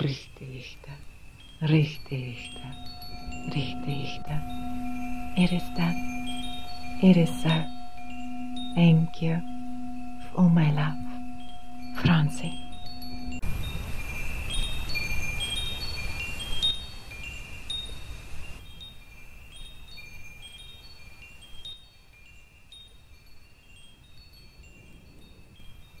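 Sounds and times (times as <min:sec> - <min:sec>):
wind chimes tinkling: 0:00.0 - 0:26.0.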